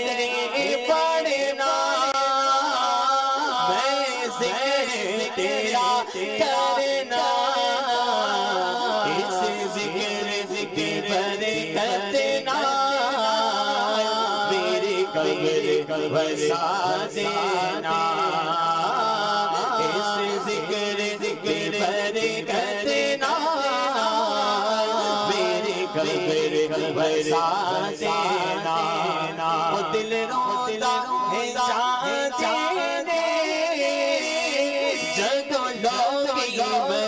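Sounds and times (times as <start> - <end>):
man singing into microphone: 0.0 - 37.0.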